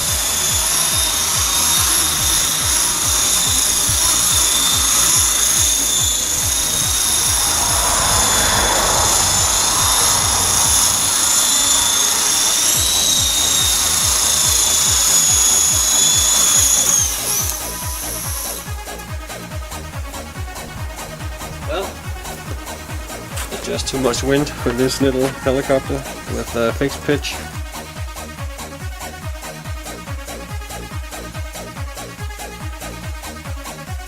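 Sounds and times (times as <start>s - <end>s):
rc helicopter motor whine: 0.0s - 28.0s.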